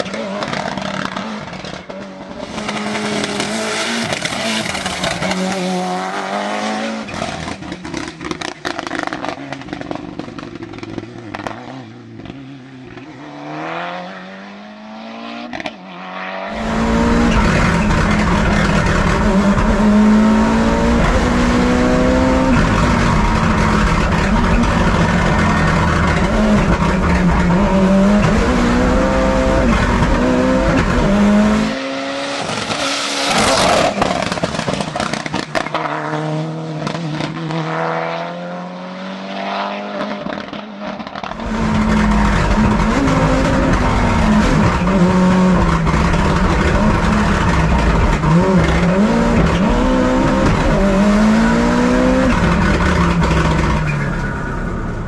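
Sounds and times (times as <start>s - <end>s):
car engine revving hard: 2.4s - 9.4s, 13.2s - 40.4s, 41.0s - 55.0s.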